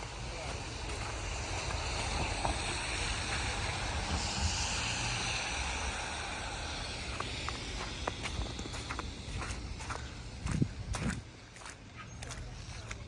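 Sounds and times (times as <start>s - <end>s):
steady rushing hiss: 0.0s - 13.0s
wind rumbling on microphone: 0.0s - 13.0s.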